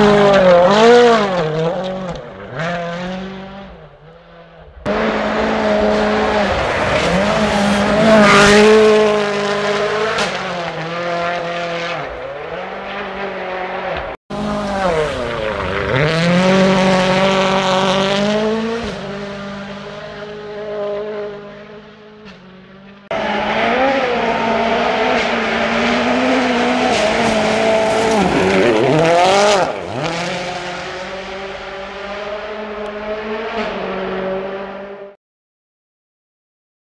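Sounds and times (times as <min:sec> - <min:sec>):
rally car engine at full throttle: 0:00.0 - 0:35.2.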